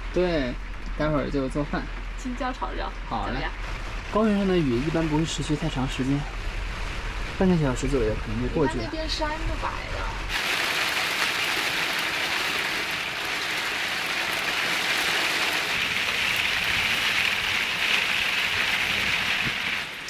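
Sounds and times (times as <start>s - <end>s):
heavy rain drumming on vehicle roof: 0.1s - 20.0s.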